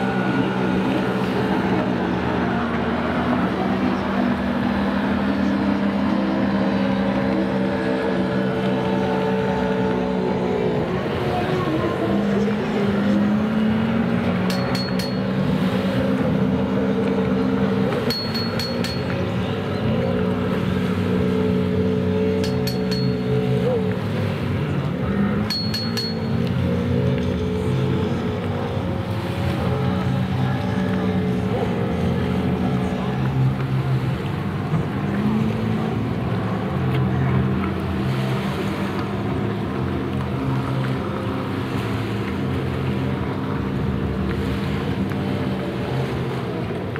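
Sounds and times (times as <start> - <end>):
jet ski engines droning: 0.0 - 46.9.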